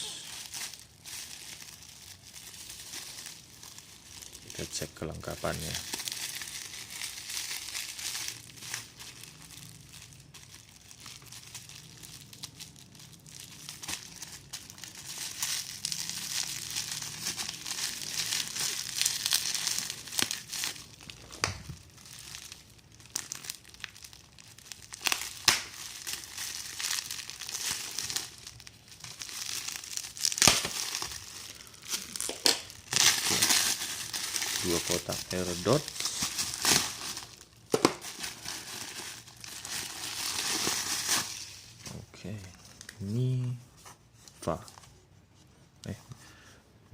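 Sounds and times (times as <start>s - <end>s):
plastic packaging crinkling: 0.0s - 44.9s.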